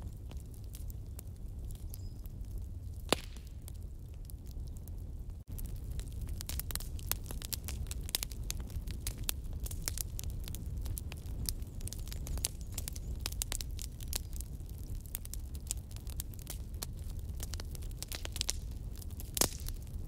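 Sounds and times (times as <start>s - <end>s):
fire crackling with sharp pops: 0.0s - 20.0s.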